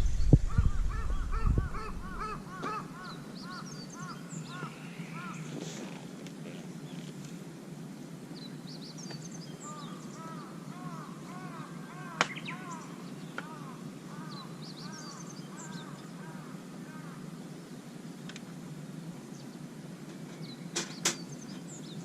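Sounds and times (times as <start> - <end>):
birds calling: 0.0 - 7.4, 8.4 - 17.5, 20.2 - 22.0
low background hum: 0.0 - 22.0.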